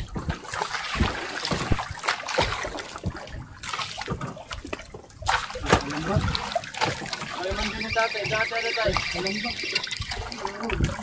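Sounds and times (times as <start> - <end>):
water splashing against boat hull: 0.0 - 11.0.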